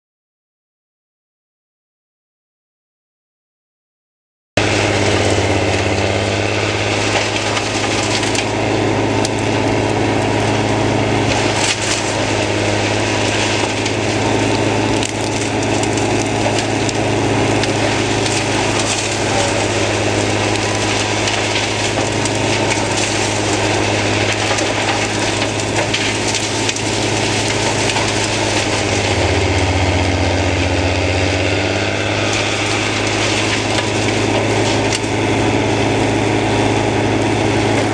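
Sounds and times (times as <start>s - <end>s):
branches crunching in chipper: 4.6s - 37.9s
wood chipper engine drone: 4.6s - 37.9s.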